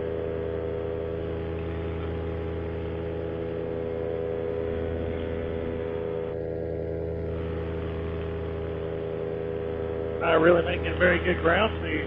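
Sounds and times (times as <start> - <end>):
paramotor engine droning: 0.0 - 12.0.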